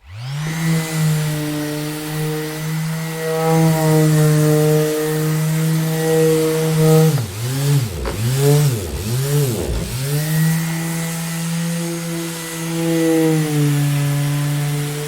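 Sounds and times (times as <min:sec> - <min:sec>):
electric orbital sander running: 0:00.0 - 0:15.0.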